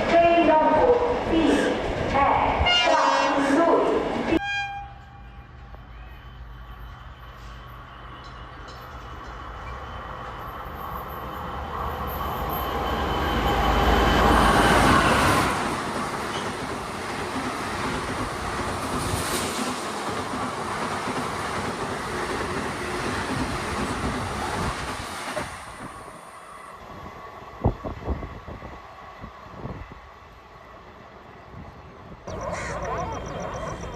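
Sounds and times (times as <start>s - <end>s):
train passing at speed: 0.0s - 33.9s.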